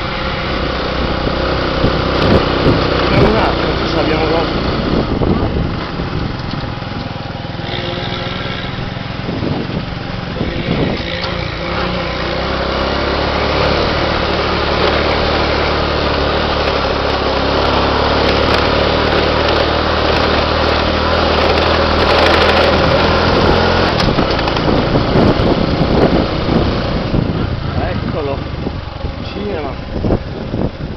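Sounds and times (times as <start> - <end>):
motorbike engine running: 0.0 - 30.9.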